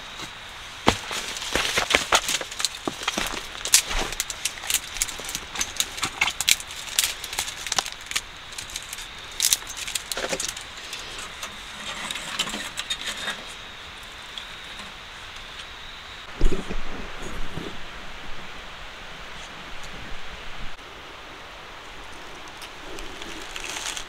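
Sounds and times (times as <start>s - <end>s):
wood fire crackling: 0.0s - 17.3s, 21.7s - 24.0s.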